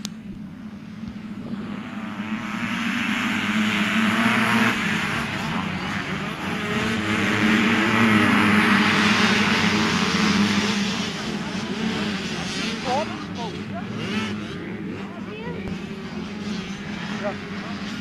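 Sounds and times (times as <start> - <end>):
two-stroke dirt bike engine: 0.0 - 18.0.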